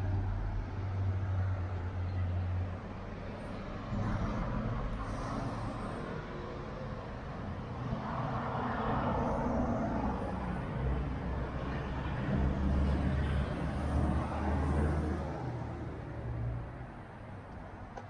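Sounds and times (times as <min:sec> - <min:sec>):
vehicles driving past: 0:00.0 - 0:18.0.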